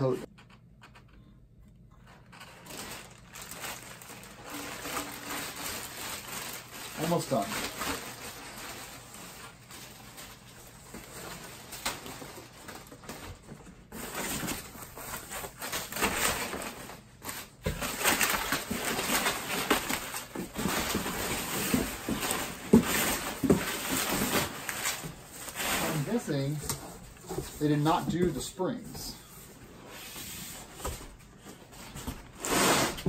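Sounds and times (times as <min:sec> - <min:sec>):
packing material crinkling: 0:02.0 - 0:29.1.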